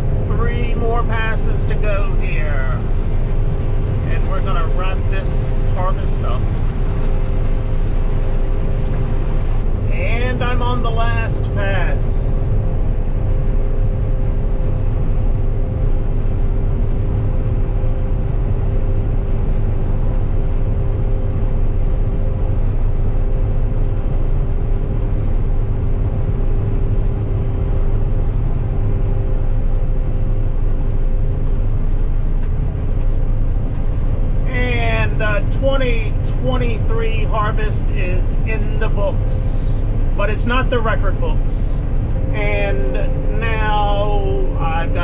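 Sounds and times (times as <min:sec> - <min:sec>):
combine harvester engine drone: 0:00.0 - 0:45.0.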